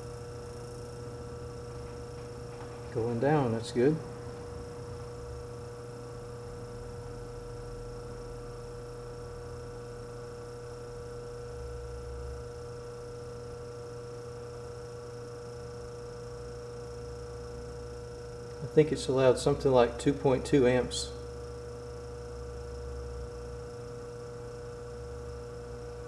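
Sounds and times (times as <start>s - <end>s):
refrigerator compressor humming: 0.0s - 26.0s.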